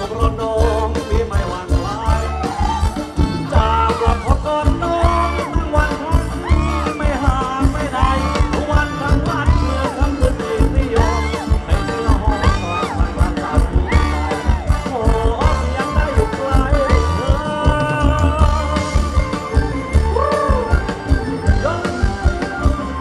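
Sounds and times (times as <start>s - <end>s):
bass: 0.0s - 23.0s
person singing: 0.0s - 23.0s
steady drum beat: 0.0s - 23.0s.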